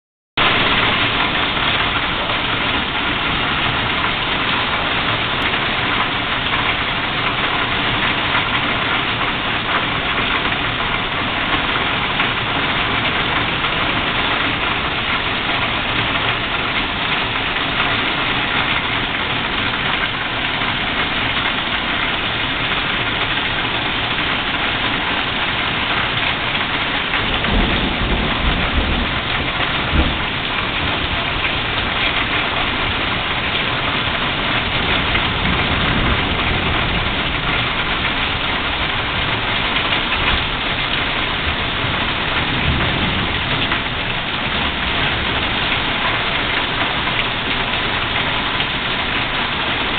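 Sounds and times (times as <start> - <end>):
heavy rain falling: 0.4 - 49.9.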